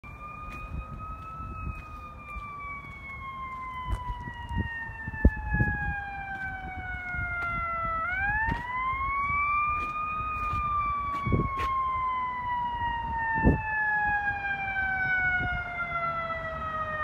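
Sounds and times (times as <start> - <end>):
distant fire engine siren: 0.0 - 17.0.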